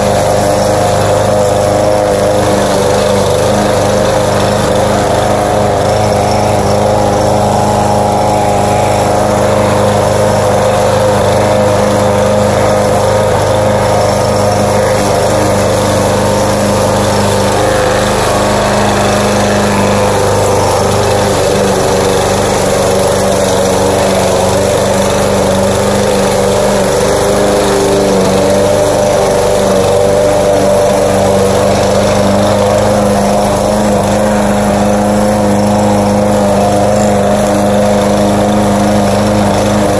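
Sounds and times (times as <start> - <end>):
lawn mower engine droning: 0.0 - 39.9.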